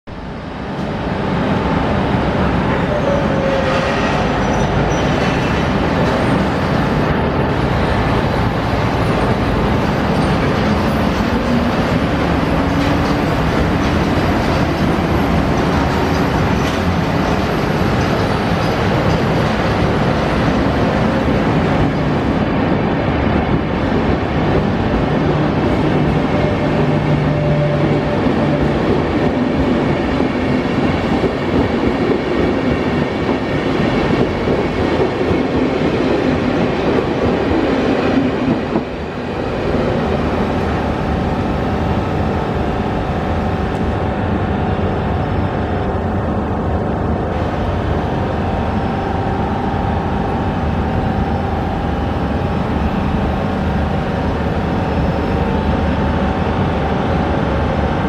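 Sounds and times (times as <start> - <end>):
train coaches rolling on rails: 0.1 - 58.0
electric locomotive running: 0.2 - 58.0.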